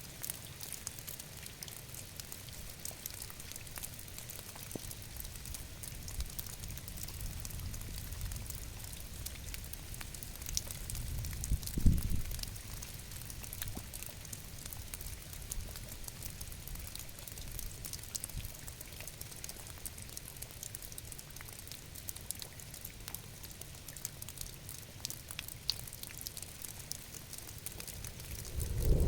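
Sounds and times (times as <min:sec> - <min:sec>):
rain pattering: 0:00.0 - 0:29.0.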